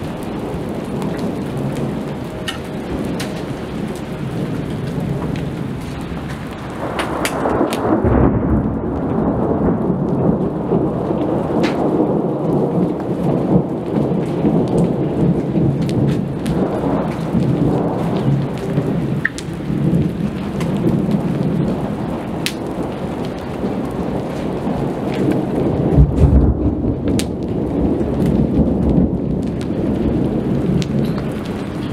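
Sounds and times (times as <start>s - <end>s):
steady rain: 0.0s - 31.9s
thunder rumbling: 0.0s - 31.9s.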